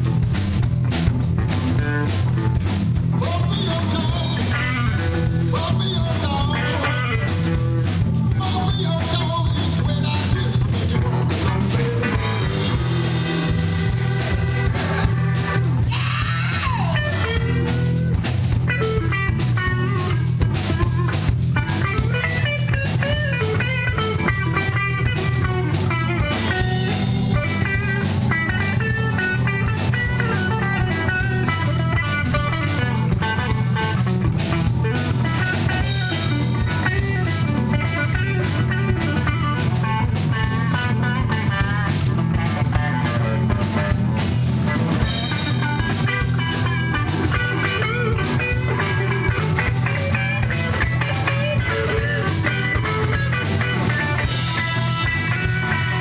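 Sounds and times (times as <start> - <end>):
bass guitar: 0.0 - 56.0
drums: 0.0 - 56.0
electric guitar lead: 0.0 - 56.0
keyboards: 0.0 - 56.0.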